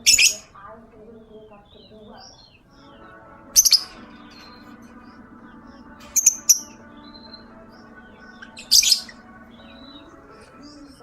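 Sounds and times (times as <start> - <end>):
background music: 0.0 - 11.0
lovebird chirping: 0.0 - 11.0.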